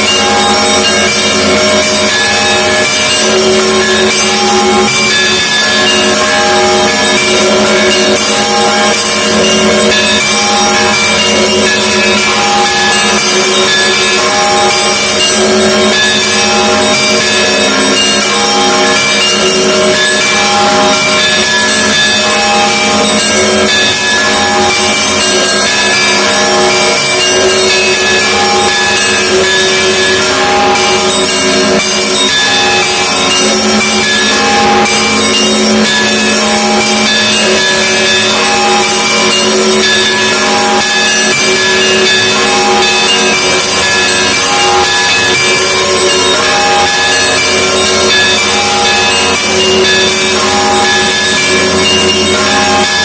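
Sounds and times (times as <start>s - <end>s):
church bells ringing a peal: 0.0s - 53.0s
hum of low bells: 0.0s - 53.0s.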